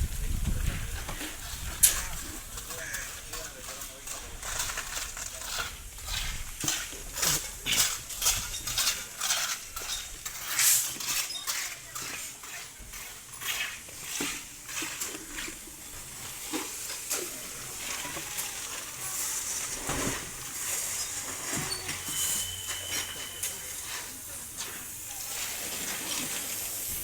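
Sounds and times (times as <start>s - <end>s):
tool scraping a gritty surface: 1.0s - 27.0s.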